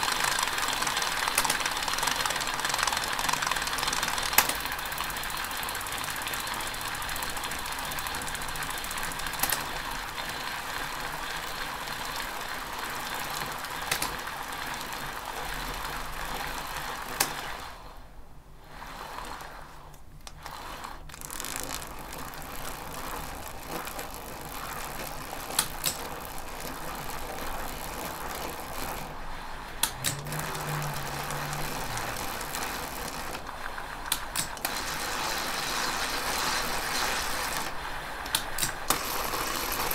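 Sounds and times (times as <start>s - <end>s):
hub gear whirring: 0.0s - 39.9s.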